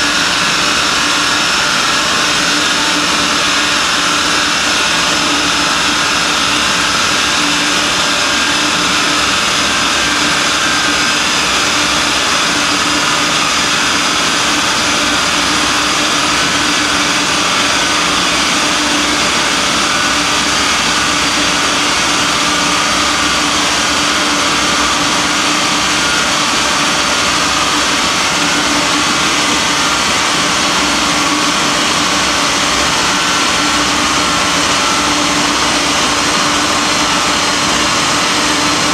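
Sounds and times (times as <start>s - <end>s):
cooling fan rushing: 0.0s - 38.9s.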